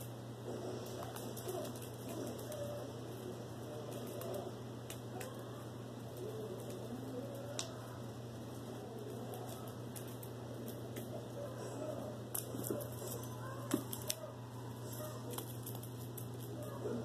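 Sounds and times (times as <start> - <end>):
cat playing with toy rustling: 0.0 - 5.2, 6.0 - 16.7
steady low hum: 0.0 - 17.0.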